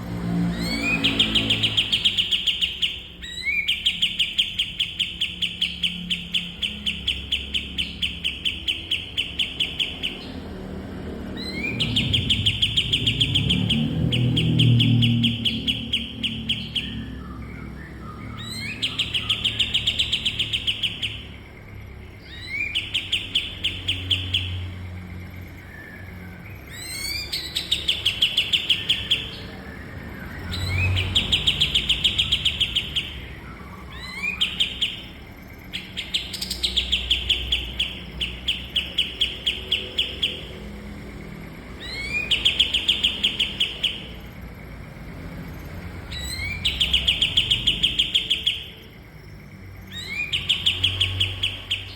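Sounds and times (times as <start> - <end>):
songbird trilling song: 0.0 - 51.9.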